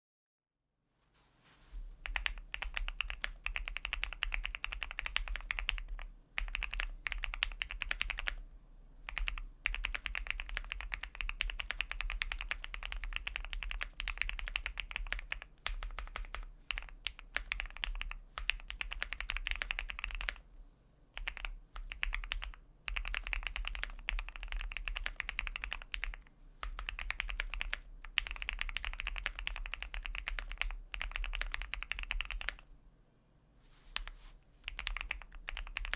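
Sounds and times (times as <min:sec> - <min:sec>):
fast typing on mechanical keyboard: 0:02.0 - 0:08.4, 0:09.1 - 0:20.4, 0:21.2 - 0:32.6, 0:34.0 - 0:35.9.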